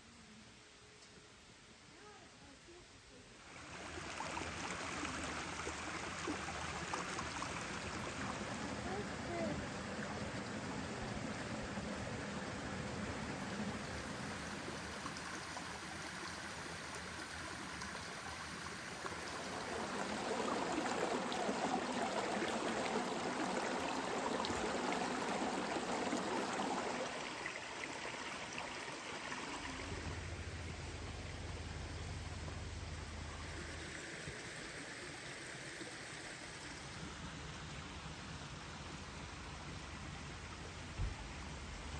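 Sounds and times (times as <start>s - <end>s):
creek splashing over rocks: 3.4s - 41.9s.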